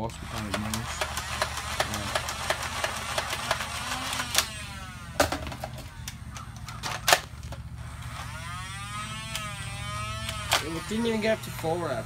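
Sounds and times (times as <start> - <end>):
flywheel motors whirring: 0.0 - 12.0.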